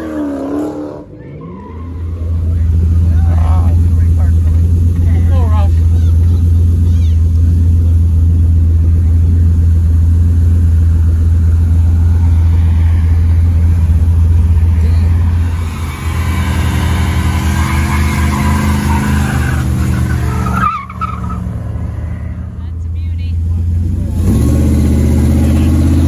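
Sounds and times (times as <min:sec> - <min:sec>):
car engine revving accelerating: 0:00.0 - 0:06.0, 0:07.3 - 0:22.5, 0:23.5 - 0:26.0
car engine idling: 0:01.0 - 0:26.0.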